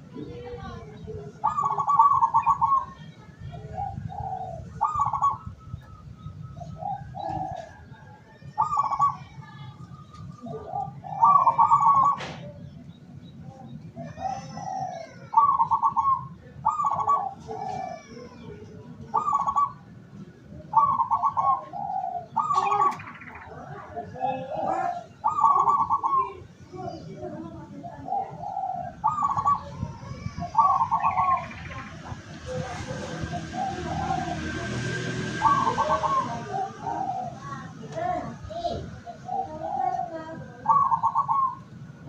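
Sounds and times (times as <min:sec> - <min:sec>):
small birds chirping: 0:00.0 - 0:42.0
dove cooing: 0:00.7 - 0:09.4, 0:10.3 - 0:12.6, 0:13.9 - 0:19.9, 0:20.6 - 0:41.8.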